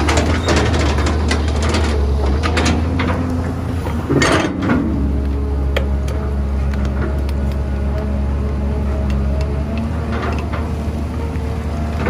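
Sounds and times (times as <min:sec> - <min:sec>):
clatter of dirt and stones: 0:00.0 - 0:12.0
excavator diesel engine running: 0:00.0 - 0:12.0.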